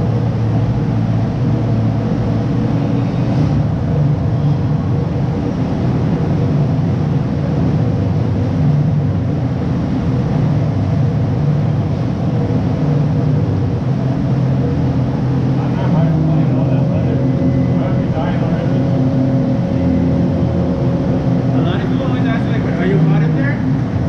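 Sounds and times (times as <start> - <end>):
loud low hum with rumble: 0.0 - 24.0.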